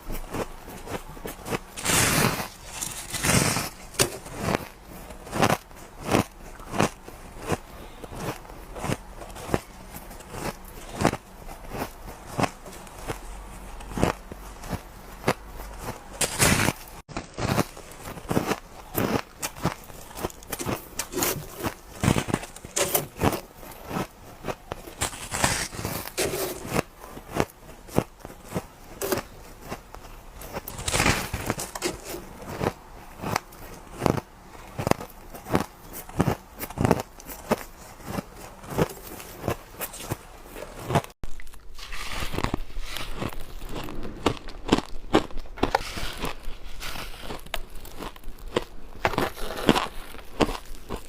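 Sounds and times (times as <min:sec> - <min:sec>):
ice being crunched: 0:00.1 - 0:51.0.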